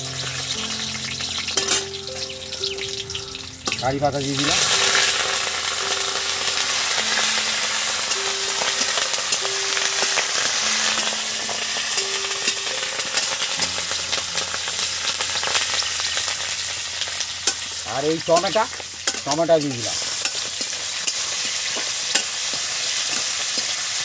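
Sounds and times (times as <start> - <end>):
spices sizzling in hot oil: 0.0 - 24.0.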